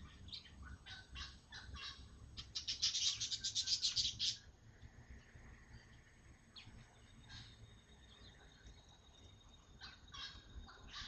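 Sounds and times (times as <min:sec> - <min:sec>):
songbird chirping and trilling: 0:00.0 - 0:11.0.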